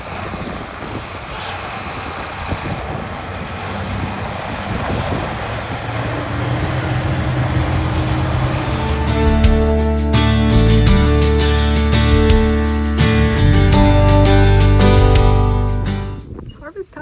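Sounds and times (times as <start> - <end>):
heavy machinery running: 0.0 - 16.2.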